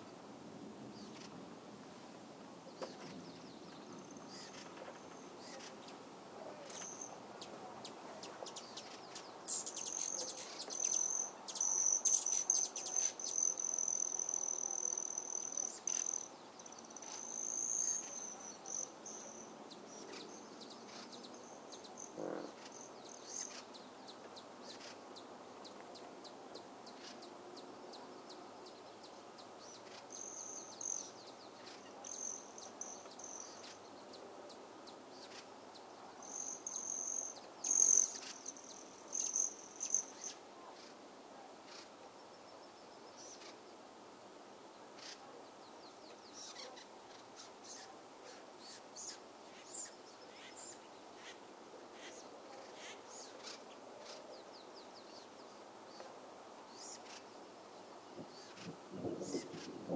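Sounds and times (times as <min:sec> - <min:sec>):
faint outdoor hiss: 0:00.0 - 0:59.9.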